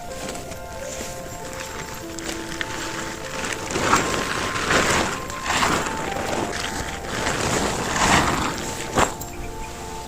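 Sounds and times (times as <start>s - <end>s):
music with long held notes: 0.0s - 10.0s.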